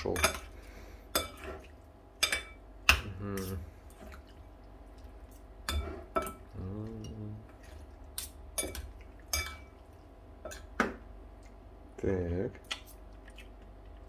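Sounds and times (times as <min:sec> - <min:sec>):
soft stirring of wet mix: 0:00.0 - 0:14.0.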